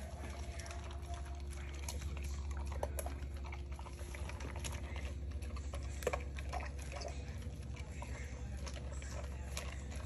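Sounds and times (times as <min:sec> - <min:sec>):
dog crunching dry kibble: 0:00.0 - 0:10.0.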